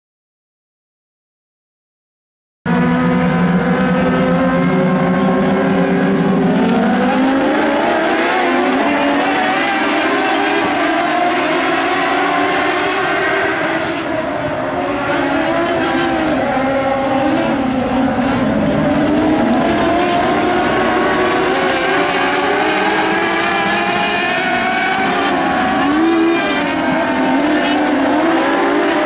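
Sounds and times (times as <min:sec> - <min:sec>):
race car engines: 0:02.7 - 0:29.0.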